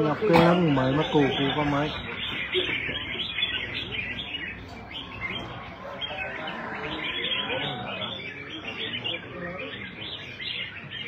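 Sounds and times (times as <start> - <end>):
bulbuls singing and chirping: 0.0 - 11.0.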